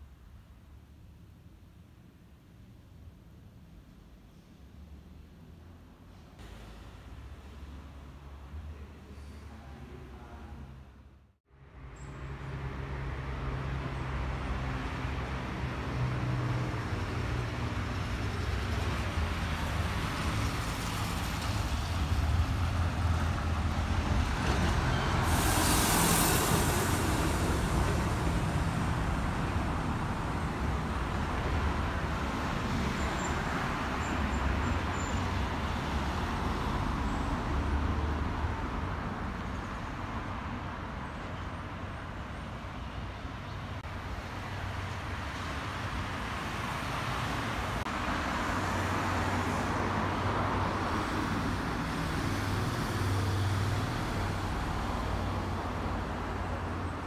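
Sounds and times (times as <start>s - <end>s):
vehicle engines rumbling: 4.7s - 57.0s.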